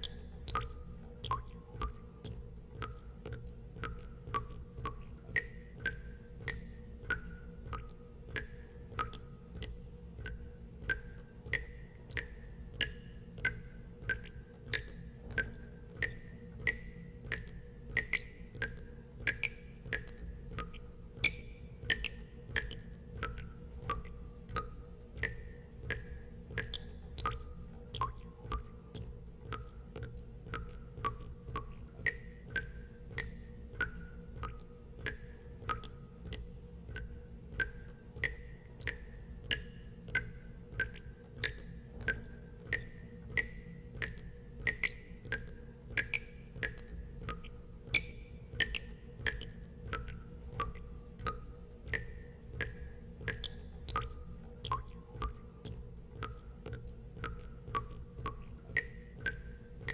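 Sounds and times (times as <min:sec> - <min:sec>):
low steady hum: 0:00.0 - 0:59.9
water drops plinking into water: 0:00.0 - 0:59.9.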